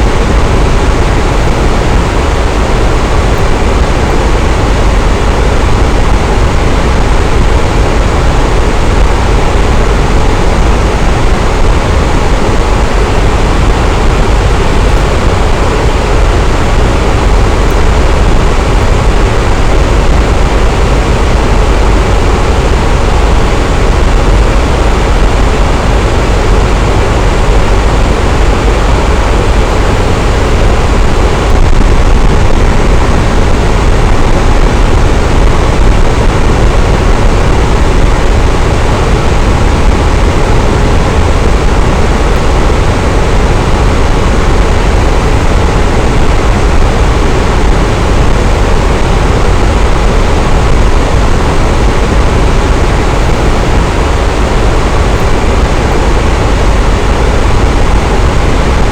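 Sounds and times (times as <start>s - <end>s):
electric fan whooshing: 0.0s - 58.9s.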